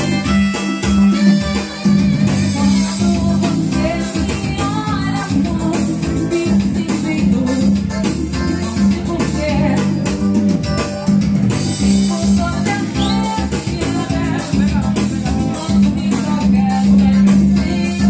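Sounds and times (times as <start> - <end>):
person singing: 0.0 - 10.3, 11.8 - 18.0
live band music: 0.0 - 18.0.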